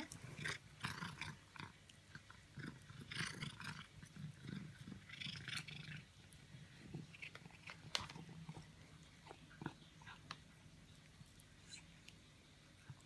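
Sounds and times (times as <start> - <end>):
cat crunching food: 0.0 - 13.0.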